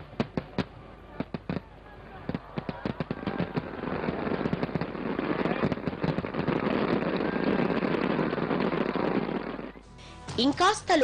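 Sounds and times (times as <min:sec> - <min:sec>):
fireworks crackling: 0:00.0 - 0:09.8
fireworks pops and bangs: 0:00.0 - 0:09.8.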